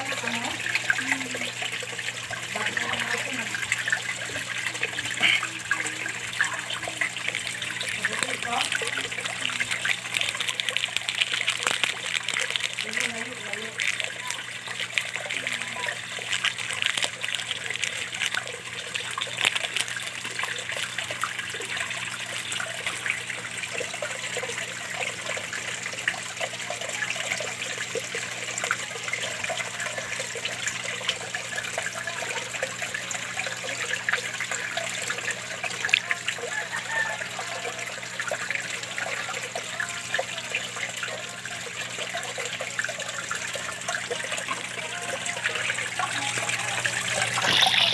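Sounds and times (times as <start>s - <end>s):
small waterfall splashing into pond: 0.0s - 47.9s.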